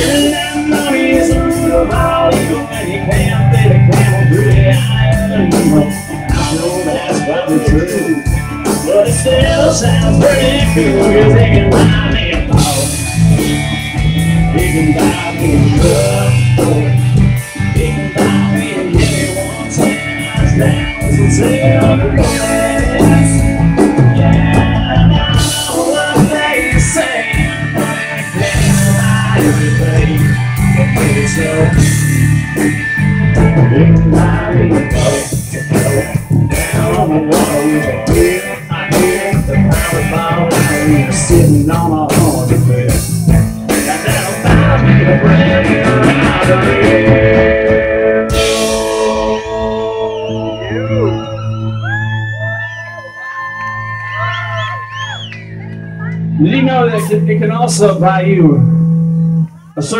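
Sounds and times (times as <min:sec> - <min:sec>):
man singing: 0:00.0 - 0:32.2, 0:33.4 - 0:52.5, 0:56.4 - 0:58.7, 0:59.6 - 0:59.9
live band playing: 0:00.0 - 0:59.9.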